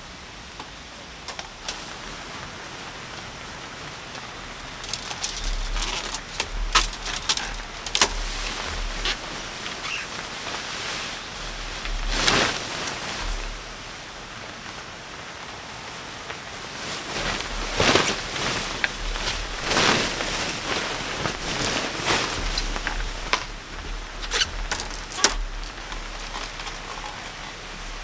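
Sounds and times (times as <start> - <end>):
rain patter: 0.0 - 28.0
tent fabric swishing and rustling: 1.4 - 28.0.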